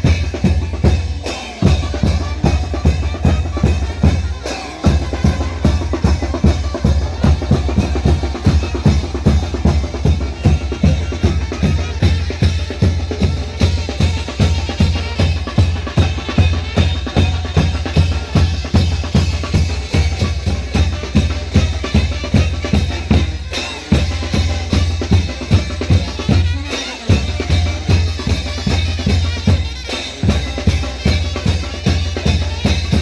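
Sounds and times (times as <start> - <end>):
bass drum and snare beat: 0.0 - 33.0
live brass band playing: 0.0 - 33.0.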